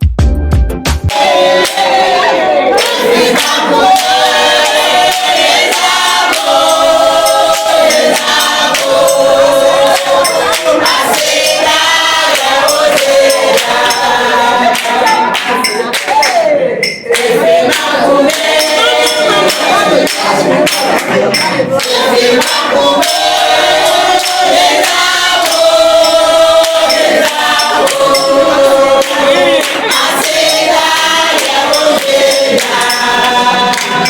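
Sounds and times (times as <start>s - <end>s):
percussion beat: 0.0s - 34.0s
group singing gospel song: 1.1s - 34.0s.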